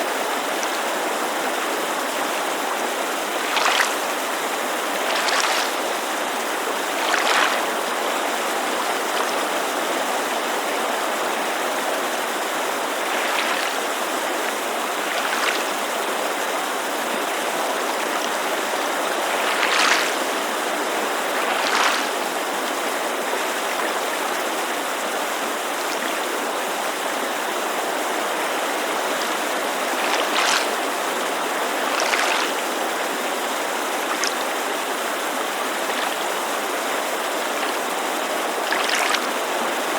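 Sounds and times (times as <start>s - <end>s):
mountain creek rushing: 0.0s - 39.9s
waves lapping at shore: 0.0s - 39.9s.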